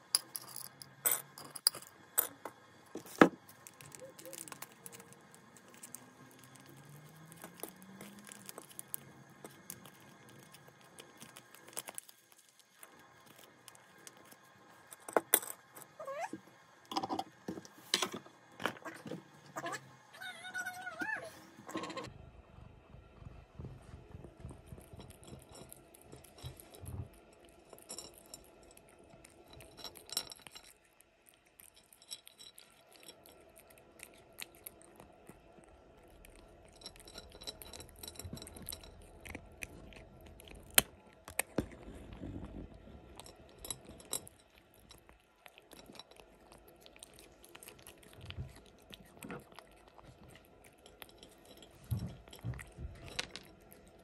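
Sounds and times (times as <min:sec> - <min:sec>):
kibble clinking against plate: 0:00.0 - 0:16.2, 0:24.4 - 0:35.1, 0:36.2 - 0:54.0
kitten crunching and chewing: 0:00.0 - 0:16.4, 0:20.6 - 0:54.0.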